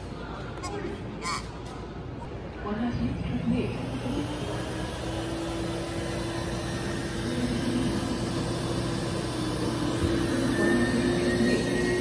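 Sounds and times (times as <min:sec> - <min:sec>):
vending machine mechanical hum: 0:00.0 - 0:12.0.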